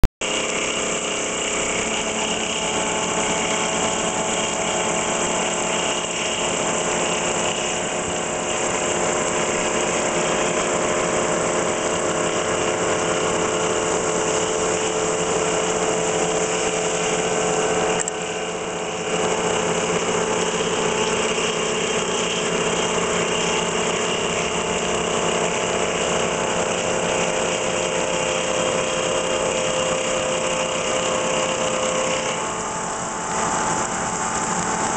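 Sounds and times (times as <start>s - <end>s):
milling machine cutting metal: 0.0s - 34.9s
coolant spraying hiss: 0.2s - 34.9s.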